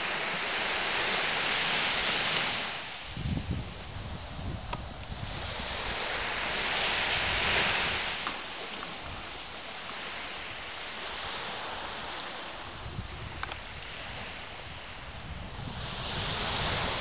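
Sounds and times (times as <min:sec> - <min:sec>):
ocean waves breaking on shore: 0:00.0 - 0:17.0
water washing with soft hiss: 0:00.0 - 0:17.0.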